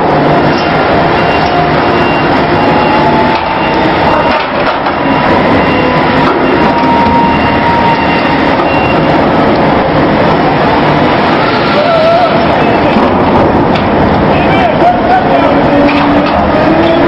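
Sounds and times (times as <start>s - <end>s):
crane mechanical rumble and hiss: 0.0s - 17.0s.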